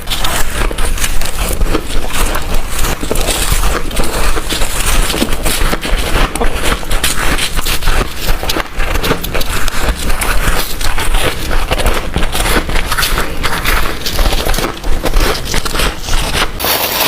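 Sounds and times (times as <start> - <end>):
frost being crunched: 0.0 - 17.0.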